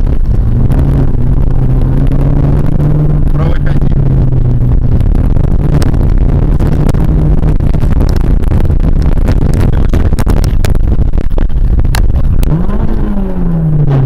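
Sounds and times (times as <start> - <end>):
car engine: 0.0 - 14.0
road rumble inside car: 0.0 - 14.0.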